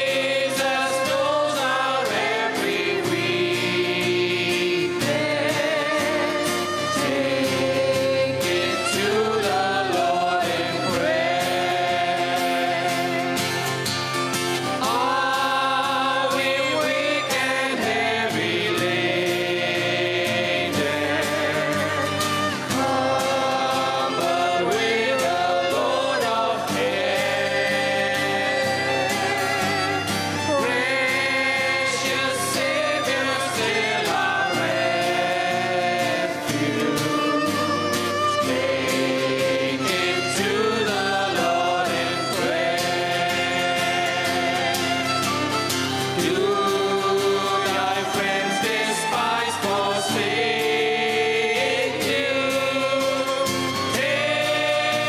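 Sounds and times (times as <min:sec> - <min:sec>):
guitar and keyboard band: 0:00.0 - 0:55.0
voices singing a hymn: 0:00.0 - 0:55.0.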